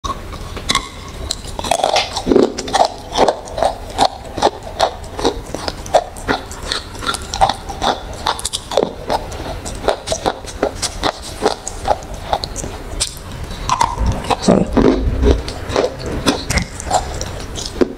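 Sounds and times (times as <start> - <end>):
crunchy chewing: 0.0 - 17.9.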